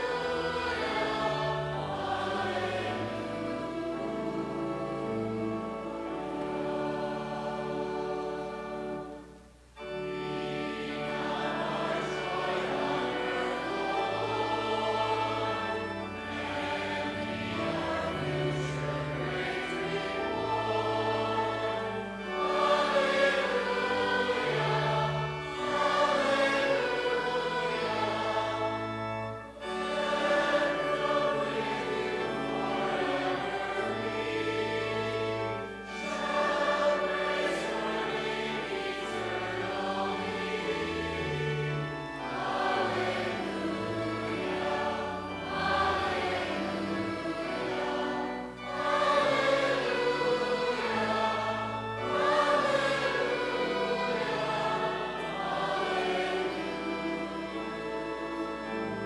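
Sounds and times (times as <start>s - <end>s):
group singing a hymn: 0.0s - 9.3s, 9.9s - 59.0s
sustained low accompaniment: 0.0s - 59.0s.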